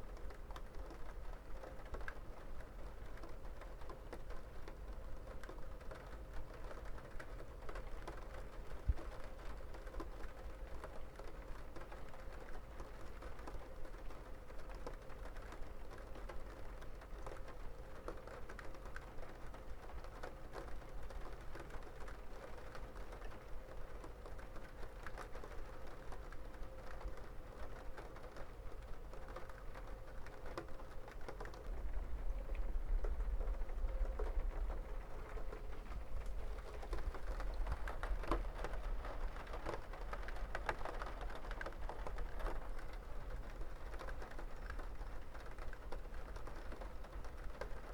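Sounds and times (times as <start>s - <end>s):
faint steady hum: 0.0s - 47.9s
rain pattering on hard surface: 0.0s - 47.9s.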